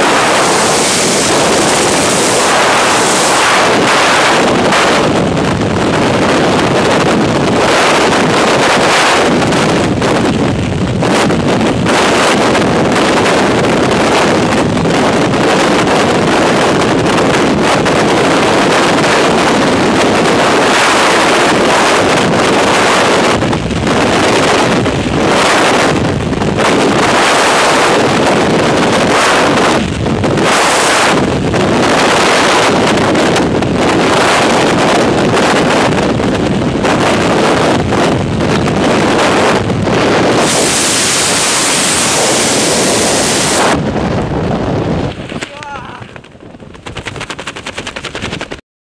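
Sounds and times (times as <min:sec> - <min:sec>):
freefall air rushing: 0:00.0 - 0:35.0, 0:38.0 - 0:48.6.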